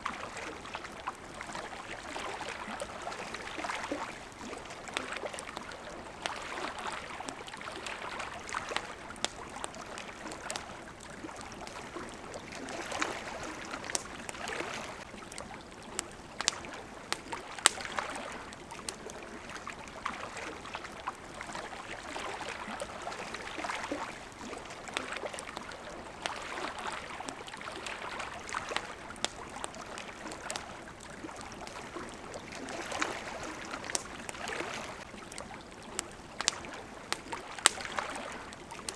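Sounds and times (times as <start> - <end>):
campfire crackling and popping: 0.0 - 38.9
water lapping against shore: 0.0 - 38.9.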